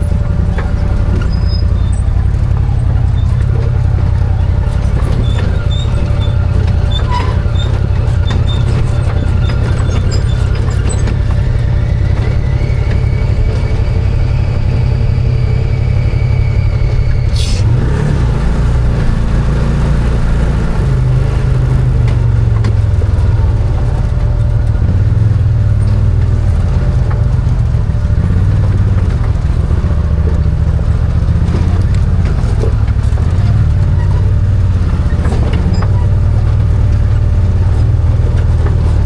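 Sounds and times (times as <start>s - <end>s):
vehicle engine running under load: 0.0s - 39.0s.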